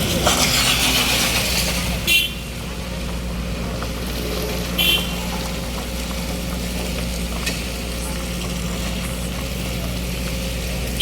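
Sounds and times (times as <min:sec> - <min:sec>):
heavy rain hissing: 0:00.0 - 0:11.0
low engine hum: 0:00.0 - 0:11.0.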